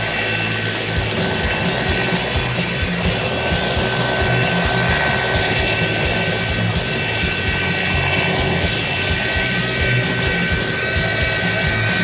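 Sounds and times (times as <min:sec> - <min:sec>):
helicopter rotor chopping: 0:00.0 - 0:12.0
turbine whine: 0:00.0 - 0:12.0.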